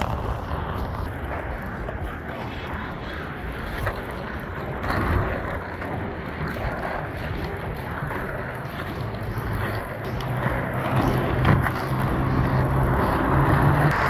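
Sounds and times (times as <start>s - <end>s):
skate wheels rolling on asphalt: 0.0s - 14.0s
wind buffeting microphone: 0.0s - 14.0s.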